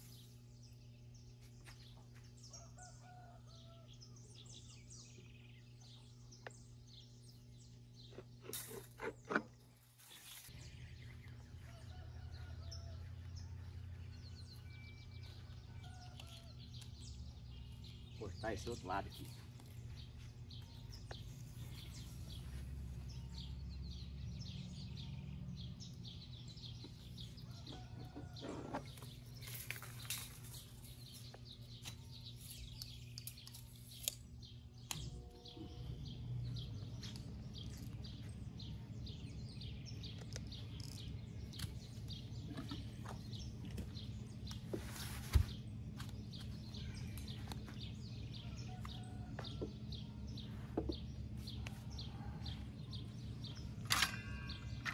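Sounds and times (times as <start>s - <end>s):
birds chirping: 0.0s - 54.9s
steady low hum: 0.0s - 54.9s.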